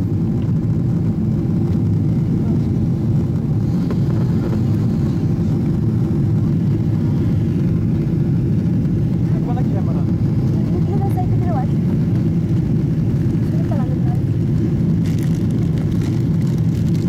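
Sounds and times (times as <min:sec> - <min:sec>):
airliner cabin low roar: 0:00.0 - 0:17.0.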